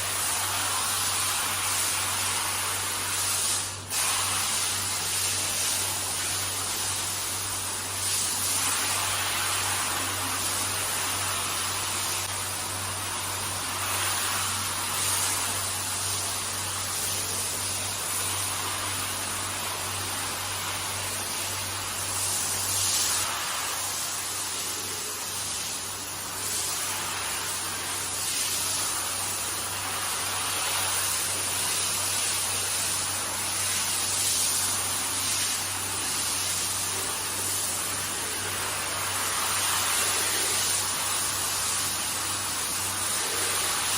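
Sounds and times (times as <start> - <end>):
pressure washer spraying carpet: 0.0 - 43.9.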